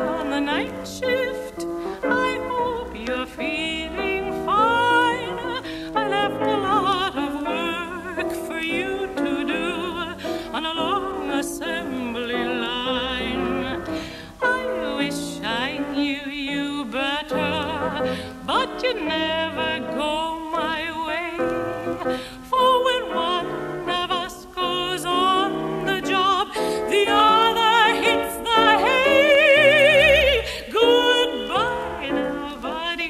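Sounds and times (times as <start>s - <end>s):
operatic singing with vibrato: 0.0s - 33.0s.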